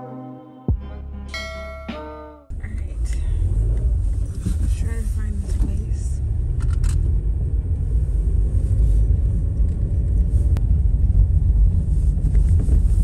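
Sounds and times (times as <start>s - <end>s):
car rumble on snowy dirt road: 2.5s - 13.0s.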